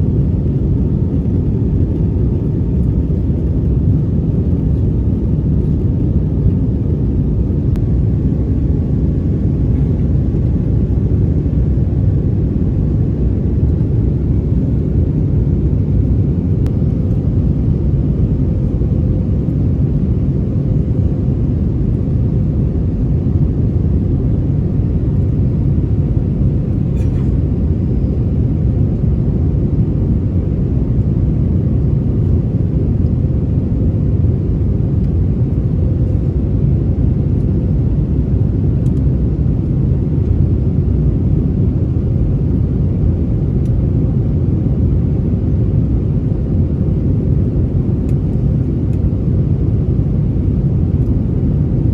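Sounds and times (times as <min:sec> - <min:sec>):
airplane cabin rumble: 0:00.0 - 0:51.9.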